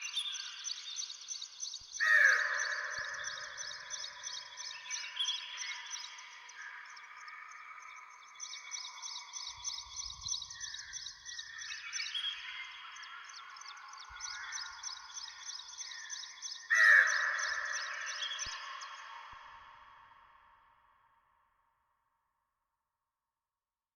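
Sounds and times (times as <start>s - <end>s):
forest birds singing: 0.0s - 20.6s.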